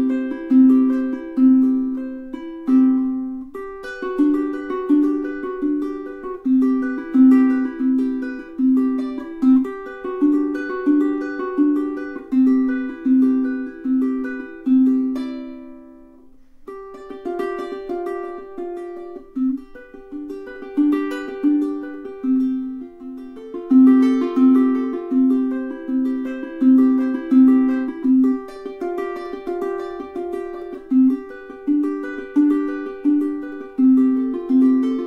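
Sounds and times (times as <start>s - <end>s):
ukulele fingerpicked: 0.0s - 35.0s.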